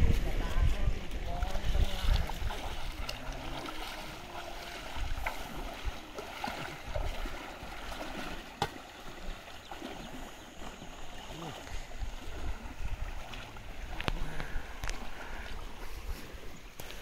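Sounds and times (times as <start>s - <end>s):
river water flowing: 0.3s - 17.0s
legs wading splashing water: 1.0s - 17.0s.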